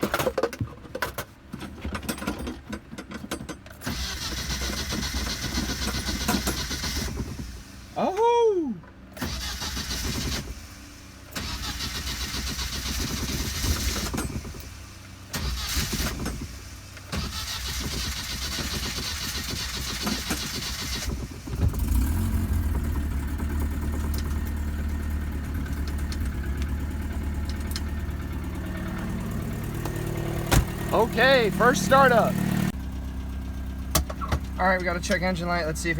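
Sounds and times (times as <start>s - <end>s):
engine cranking on starter: 3.6s - 8.0s, 9.1s - 35.9s
engine idling: 3.9s - 35.9s.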